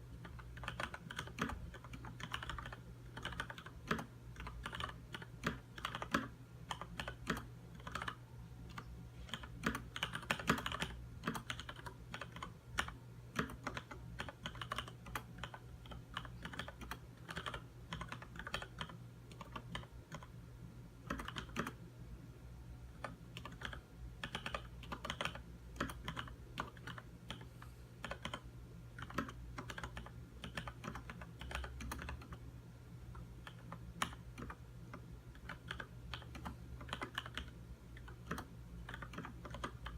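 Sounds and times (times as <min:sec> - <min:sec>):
faint low hum: 0:00.0 - 0:39.9
mechanical keyboard typing: 0:00.2 - 0:20.3, 0:21.0 - 0:21.8, 0:22.9 - 0:32.4, 0:33.1 - 0:39.9.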